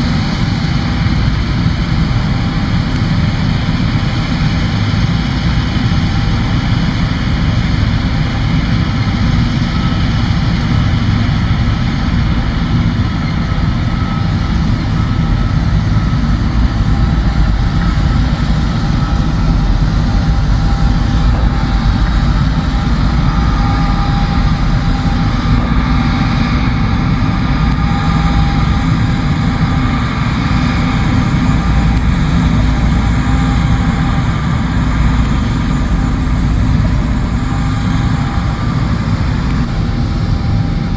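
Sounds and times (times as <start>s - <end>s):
combine engine rumble: 0.0s - 40.9s
faint steady whine: 0.0s - 40.9s.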